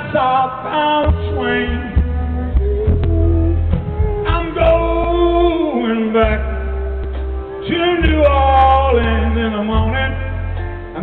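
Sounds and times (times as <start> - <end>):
live rock band: 0.0 - 11.0
man singing lead: 0.0 - 11.0.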